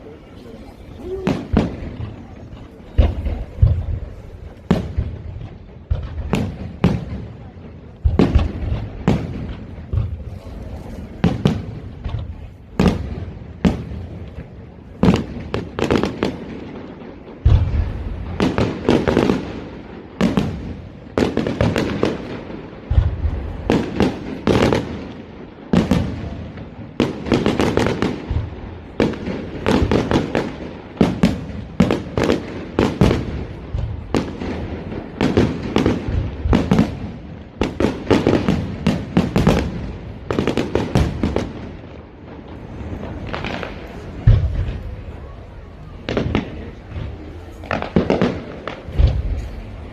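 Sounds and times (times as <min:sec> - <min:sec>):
deep fireworks booms: 0:00.0 - 0:49.9
fireworks bangs and crackling: 0:00.0 - 0:49.9.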